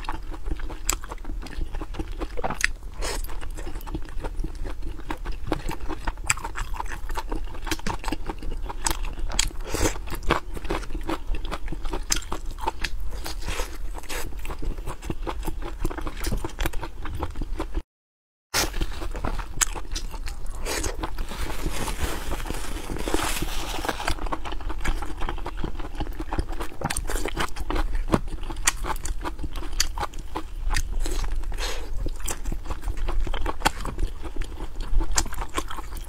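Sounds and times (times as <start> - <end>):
biting and chewing sausages: 0.0 - 17.8, 18.6 - 36.0.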